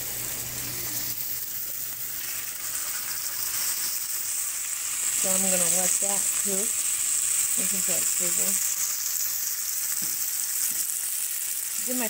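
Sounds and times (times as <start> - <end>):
steak sizzling in frying pan: 0.0 - 12.0.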